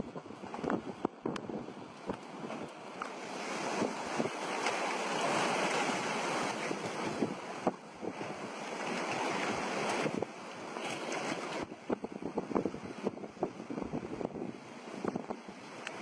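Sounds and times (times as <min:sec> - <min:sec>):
rushing water: 0:00.0 - 0:16.0
strong wind buffeting microphone: 0:00.0 - 0:16.0.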